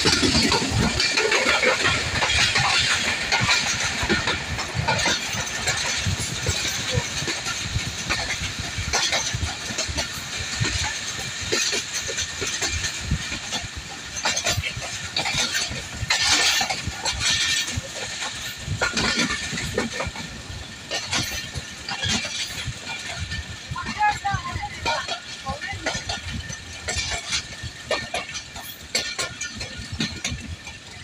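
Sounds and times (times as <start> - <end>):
clanks and rattles: 0.0 - 31.0
train wheels rushing on rails: 0.0 - 31.0.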